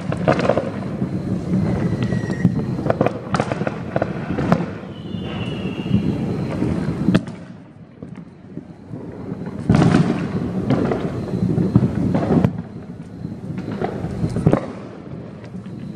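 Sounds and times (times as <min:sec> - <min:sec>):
distant fireworks bursts: 0:00.0 - 0:15.9.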